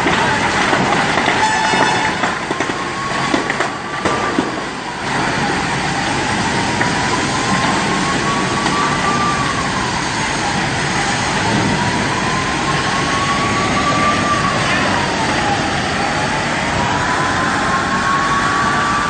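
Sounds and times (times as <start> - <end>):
siren wailing: 0.0 - 19.0
steady rushing noise: 2.1 - 19.0.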